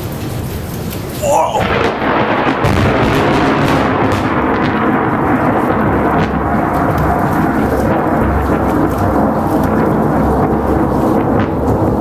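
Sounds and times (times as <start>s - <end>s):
rain falling: 0.0s - 12.0s
thunder rumbling: 1.1s - 12.0s.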